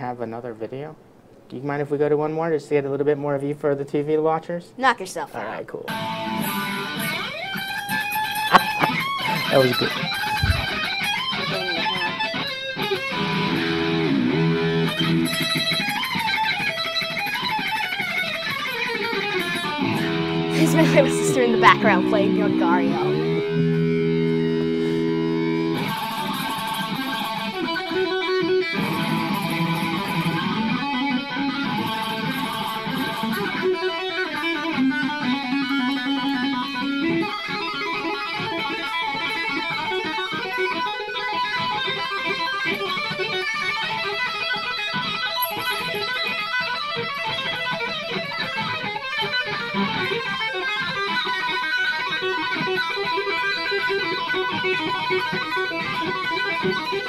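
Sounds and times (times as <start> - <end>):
electric guitar playing: 5.9 - 57.0.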